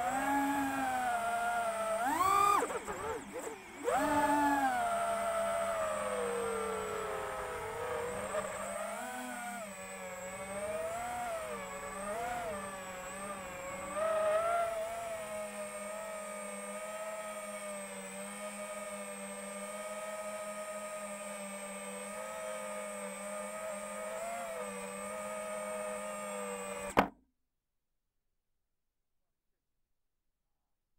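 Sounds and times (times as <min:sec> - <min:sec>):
quadcopter motors whining: 0:00.0 - 0:27.1.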